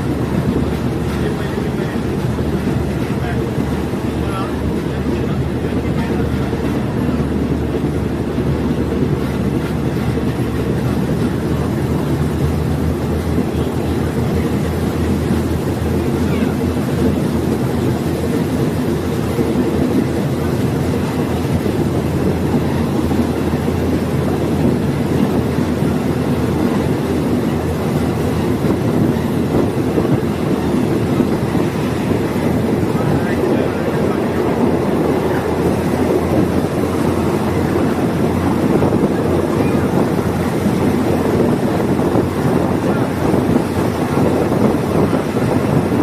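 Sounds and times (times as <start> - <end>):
diesel railcar engine drone: 0.0 - 46.0.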